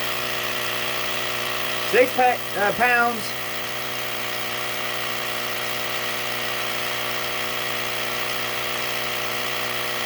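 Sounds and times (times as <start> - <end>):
tire inflator compressor humming: 0.0 - 10.0.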